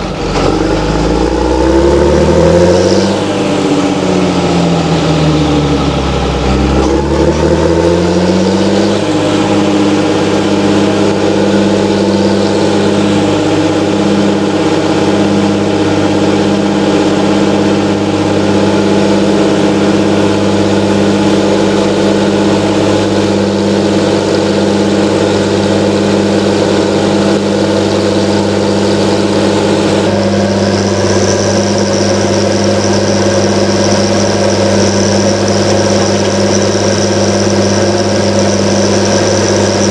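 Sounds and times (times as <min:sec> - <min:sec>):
diesel engine running: 0:00.0 - 0:39.9
high whine: 0:00.0 - 0:39.9.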